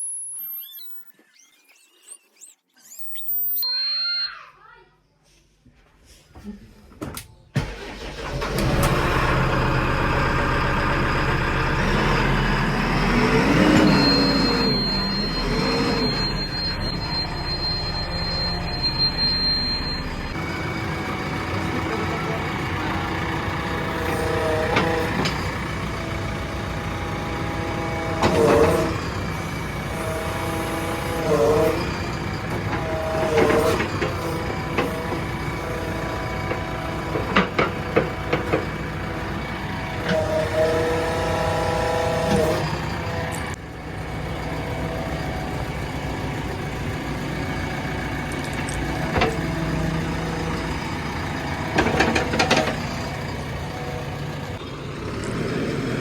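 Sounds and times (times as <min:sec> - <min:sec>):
vehicle engine running: 0:07.6 - 0:56.0
bending whining tones: 0:07.8 - 0:56.0.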